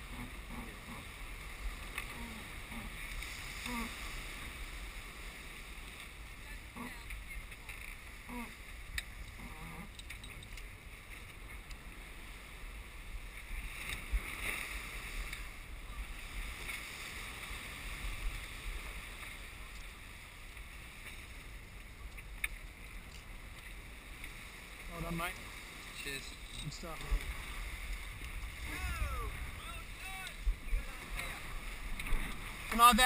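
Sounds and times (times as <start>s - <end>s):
water rushing past hull: 0.0s - 33.0s.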